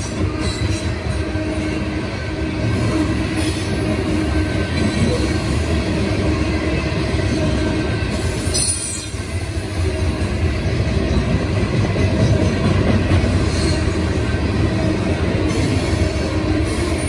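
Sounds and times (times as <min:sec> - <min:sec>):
freight train wheels rumbling on rails: 0:00.0 - 0:17.0.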